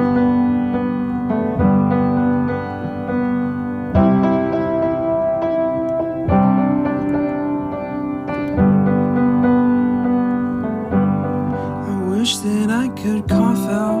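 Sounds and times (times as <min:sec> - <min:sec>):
sustained keyboard chords: 0:00.0 - 0:14.0.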